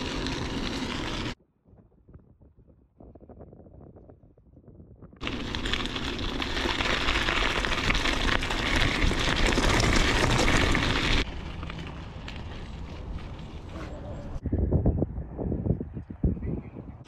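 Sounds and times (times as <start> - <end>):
wind blasting microphone: 0.0 - 17.0.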